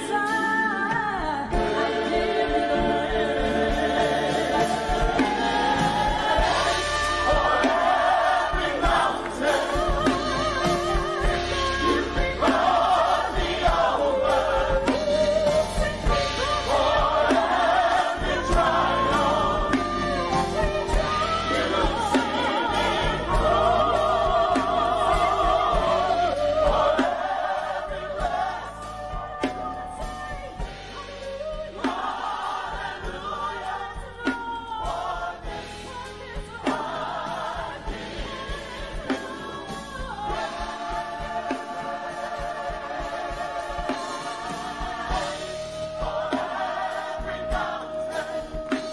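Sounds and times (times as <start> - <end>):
gospel choir singing: 0.0 - 48.9
instrumental accompaniment: 0.0 - 48.9.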